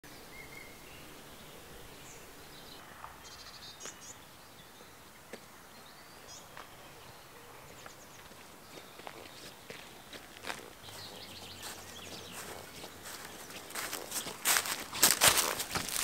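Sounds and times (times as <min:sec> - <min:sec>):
songbirds chirping: 0:00.0 - 0:16.0
faint steady hiss: 0:00.1 - 0:15.0.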